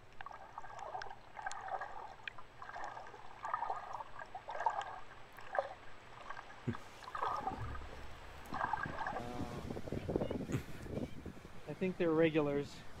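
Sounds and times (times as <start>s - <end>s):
muffled underwater gurgling: 0.3s - 11.3s.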